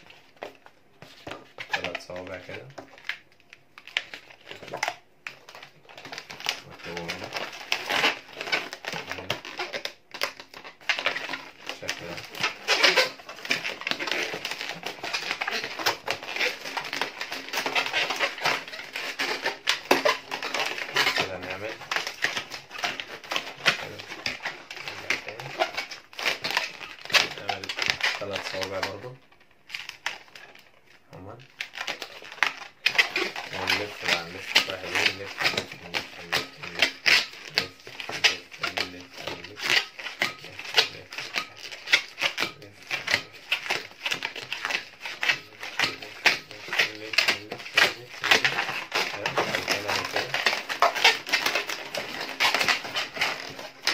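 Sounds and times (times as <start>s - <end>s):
balloons squeaking and creaking: 0.0s - 53.9s.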